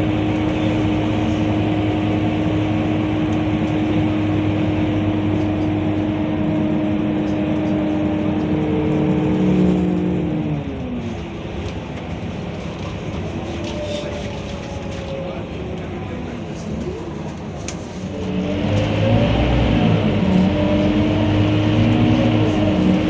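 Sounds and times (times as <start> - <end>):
bus engine pulling: 0.0 - 23.0.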